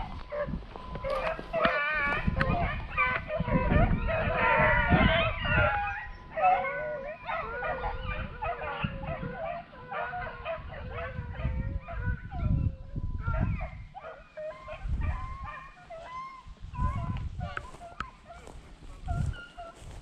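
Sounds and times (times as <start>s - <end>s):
dogs baying and yelping: 0.0s - 20.0s.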